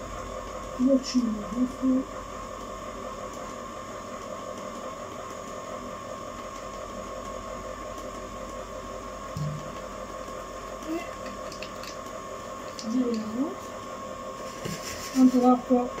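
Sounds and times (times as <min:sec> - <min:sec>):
ice cream machine humming: 0:00.0 - 0:16.0.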